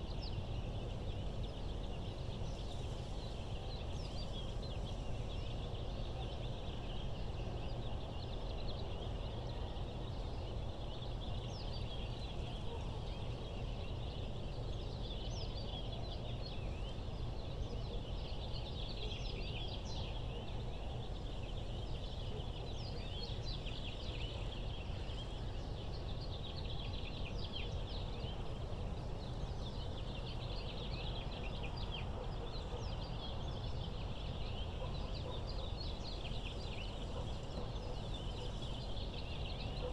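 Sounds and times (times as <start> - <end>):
many birds chirping: 0.0 - 39.9.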